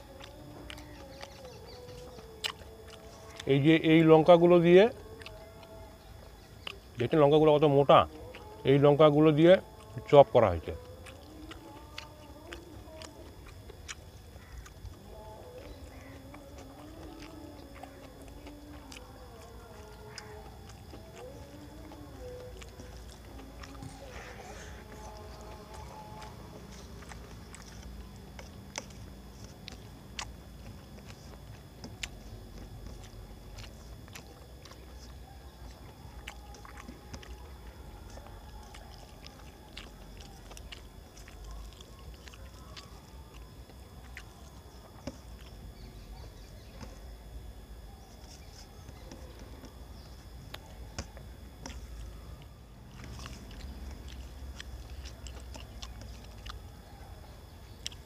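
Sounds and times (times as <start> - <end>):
chewing and lip smacking: 0.0 - 58.0.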